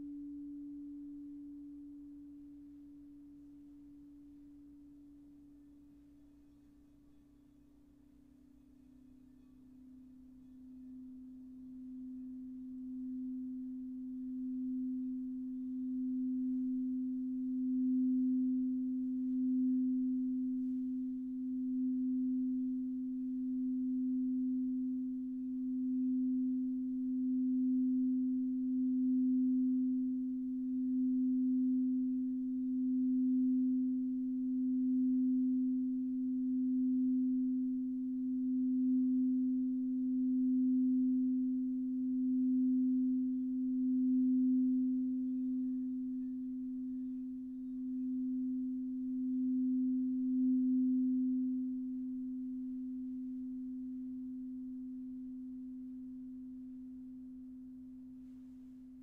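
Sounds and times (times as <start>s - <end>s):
singing bowl tone: 0.0s - 59.0s.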